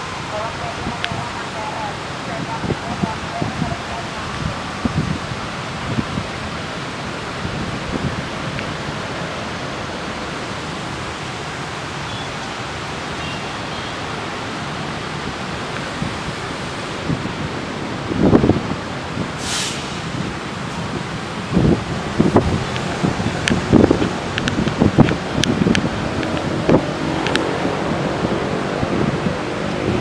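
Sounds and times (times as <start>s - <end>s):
low wind buffets thumping: 0.0s - 11.9s, 14.2s - 30.0s
wind hiss on microphone: 0.6s - 11.8s, 12.5s - 30.0s.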